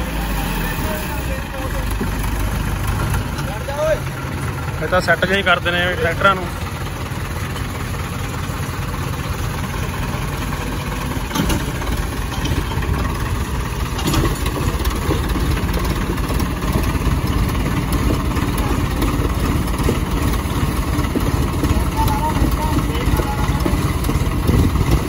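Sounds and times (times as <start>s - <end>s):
diesel tractor engines running: 0.0s - 25.0s.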